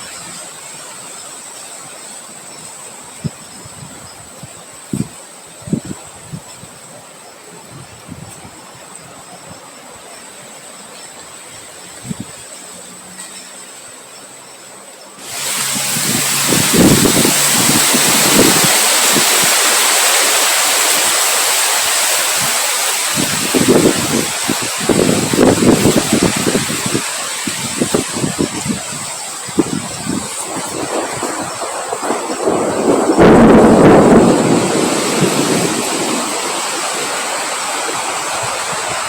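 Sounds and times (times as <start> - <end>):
rain hissing: 0.0 - 39.0
wind gusts rumbling on microphone: 1.8 - 9.8, 11.3 - 12.6, 15.2 - 39.0.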